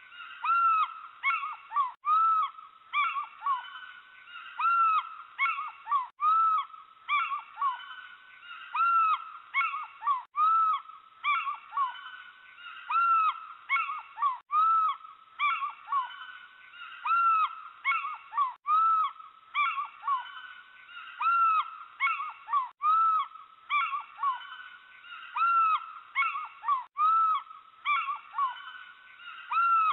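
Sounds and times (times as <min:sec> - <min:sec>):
owl calls: 0:00.0 - 0:29.9.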